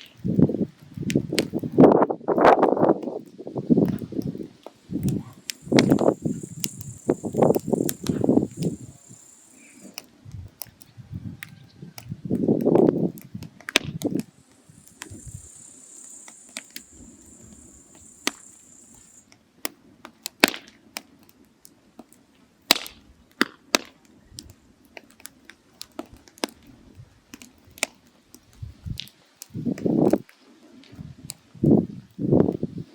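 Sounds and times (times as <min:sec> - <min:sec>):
firewood crackling and popping: 0:00.0 - 0:10.9, 0:12.0 - 0:32.7.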